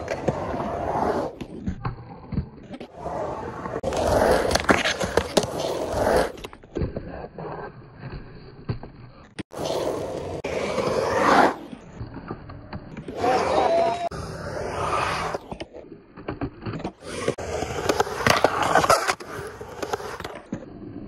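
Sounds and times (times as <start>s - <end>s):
skateboard trucks scraping coping: 0.0s - 21.0s
skateboard wheels rolling on concrete: 0.0s - 21.0s.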